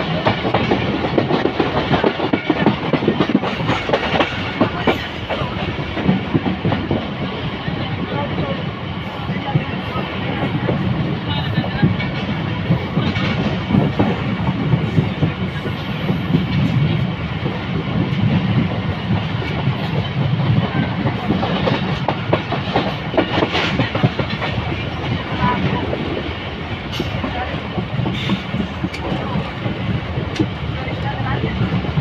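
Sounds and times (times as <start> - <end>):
train clatter: 0.0 - 32.0
train wheels rumbling on track: 0.0 - 32.0.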